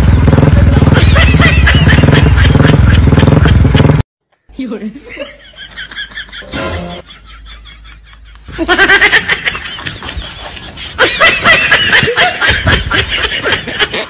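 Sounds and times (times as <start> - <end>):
high-pitched chuckling laughter: 0.7 - 3.9, 5.2 - 14.0.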